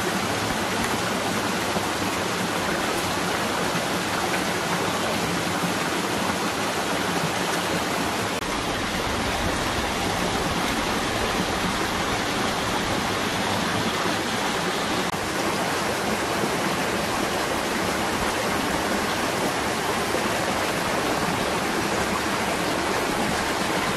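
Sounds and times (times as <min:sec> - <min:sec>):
running water rushing: 0:00.0 - 0:23.9.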